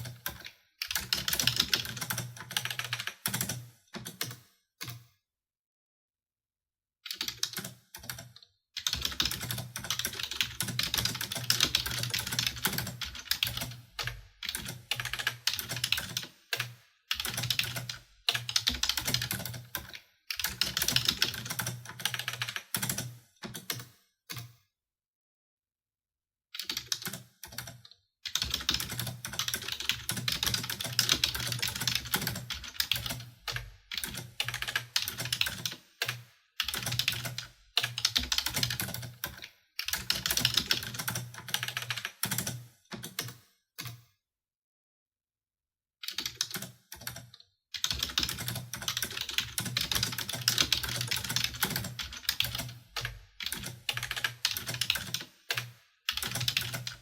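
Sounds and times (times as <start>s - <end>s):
typing on computer keyboard: 0.0s - 5.1s, 7.1s - 24.6s, 26.6s - 44.1s, 46.0s - 57.0s.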